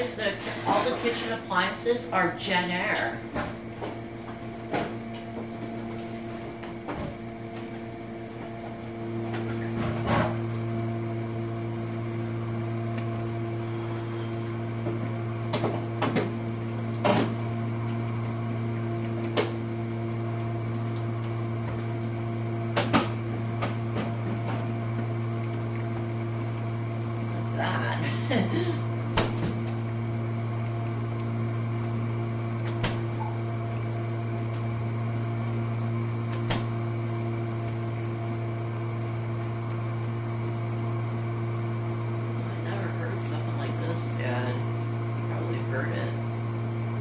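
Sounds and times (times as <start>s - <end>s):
dishwasher motor hum: 0.0s - 47.0s.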